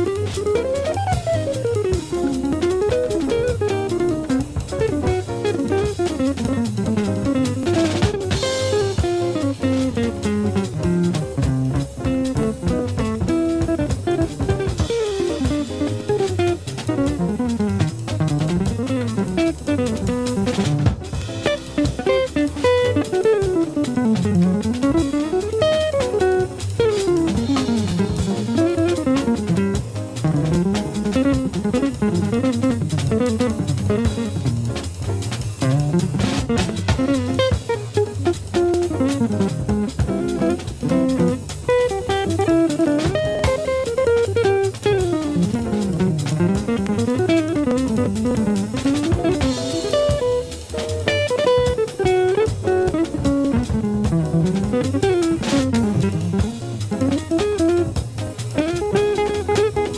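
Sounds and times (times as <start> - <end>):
drum kit: 0.0 - 59.9
electric jazz guitar lines: 0.0 - 59.9.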